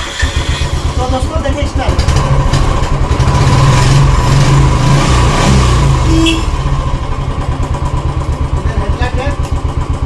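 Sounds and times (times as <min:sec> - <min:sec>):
motorcycle engine revving and idling: 0:00.0 - 0:10.0.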